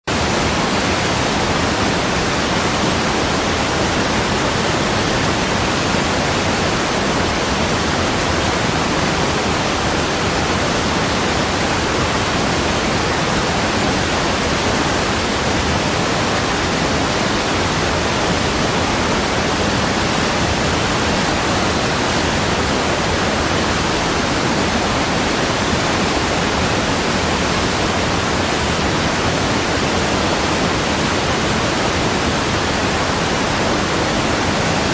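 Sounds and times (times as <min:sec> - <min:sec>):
water rushing: 0:00.1 - 0:34.9.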